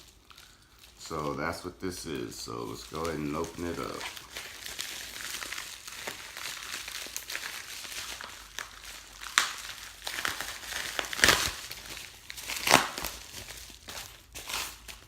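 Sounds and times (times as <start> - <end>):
packaging crinkling and rustling: 0.0 - 15.0
sharp packaging rips: 0.0 - 15.0.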